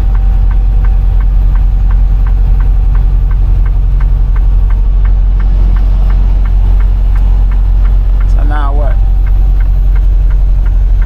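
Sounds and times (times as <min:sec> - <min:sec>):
truck engine and road rumble: 0:00.0 - 0:11.0
turn signal ticking: 0:00.0 - 0:11.0.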